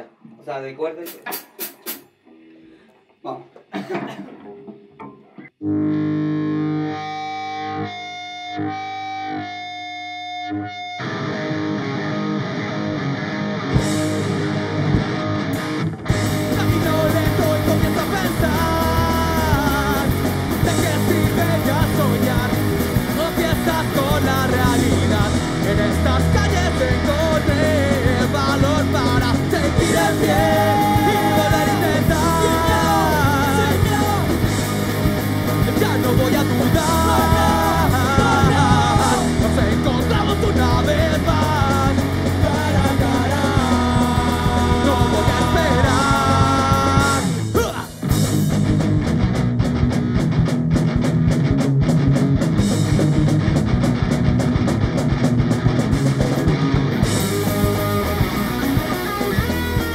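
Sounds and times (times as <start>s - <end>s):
rock band playing: 1.0s - 2.9s, 3.9s - 59.9s
electric guitar picking: 1.2s - 59.9s.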